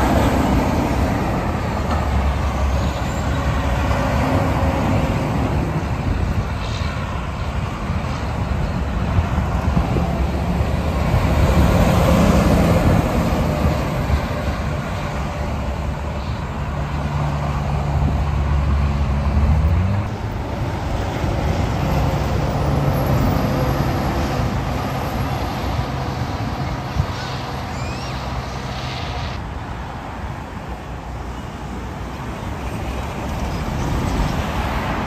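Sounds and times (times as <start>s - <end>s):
trucks passing on a highway: 0.0s - 35.0s.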